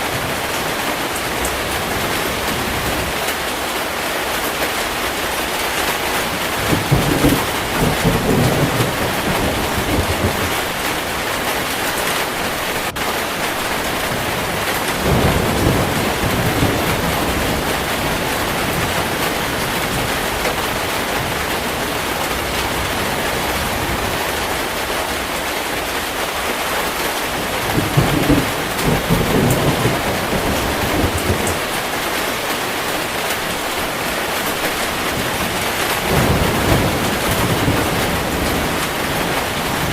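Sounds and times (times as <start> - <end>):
heavy rain: 0.0 - 39.9
thunder rumbling: 5.6 - 25.3, 27.2 - 39.9.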